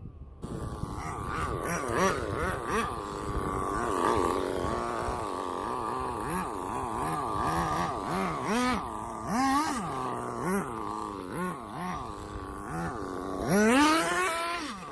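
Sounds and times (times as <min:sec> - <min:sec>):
model car engine revving: 0:00.4 - 0:14.9.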